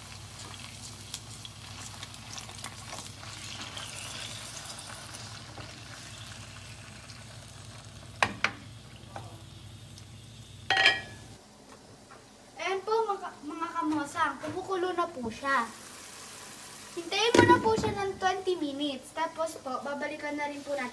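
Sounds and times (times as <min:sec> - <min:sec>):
liver sizzling in hot oil: 0:00.0 - 0:11.4, 0:15.3 - 0:20.9.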